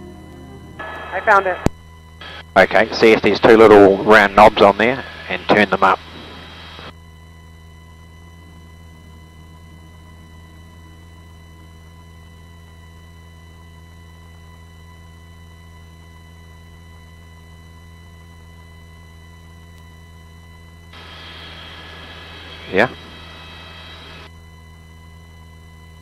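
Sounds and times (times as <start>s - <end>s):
intercom low hum: 0.0s - 26.0s.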